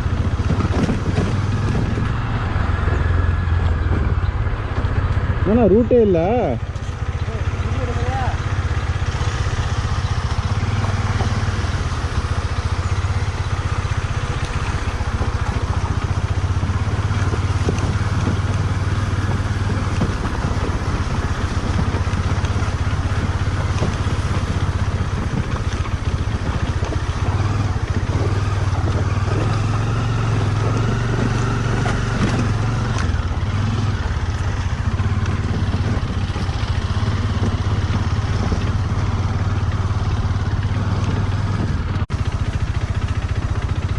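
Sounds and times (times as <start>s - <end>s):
rattling and crunching on rocks: 0.0s - 5.2s, 6.6s - 43.9s
motorcycle engine running: 0.0s - 43.9s.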